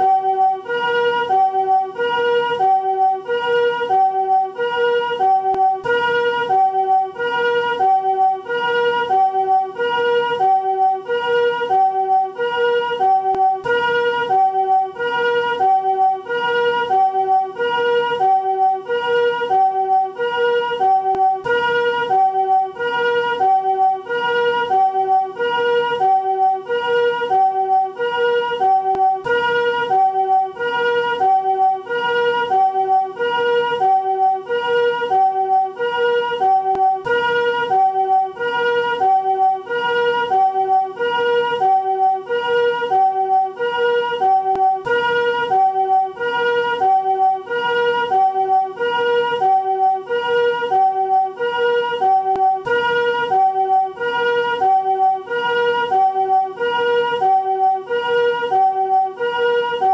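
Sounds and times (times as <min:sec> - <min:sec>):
ambulance two-tone siren: 0:00.0 - 0:59.9.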